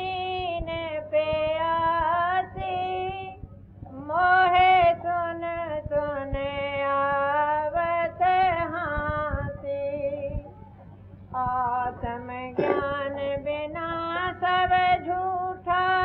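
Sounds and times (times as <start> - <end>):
woman singing devotional song: 0.0 - 16.0.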